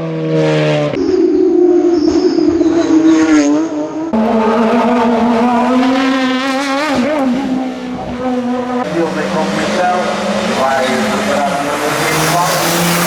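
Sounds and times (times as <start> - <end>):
racing car engine at high revs: 0.0 - 13.0.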